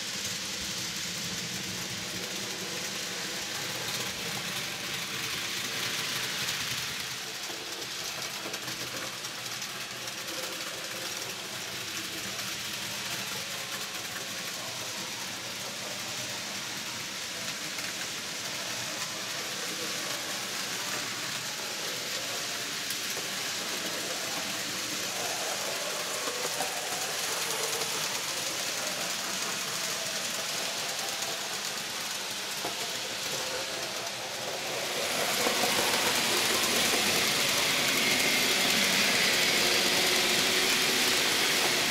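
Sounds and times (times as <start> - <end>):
model train motors whirring: 0.0 - 41.9.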